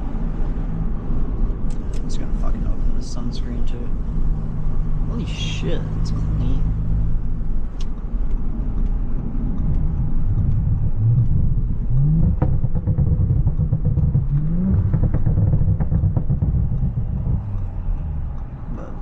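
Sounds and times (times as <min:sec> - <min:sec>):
car engine accelerating: 0:00.0 - 0:19.0
road rumble: 0:00.0 - 0:19.0.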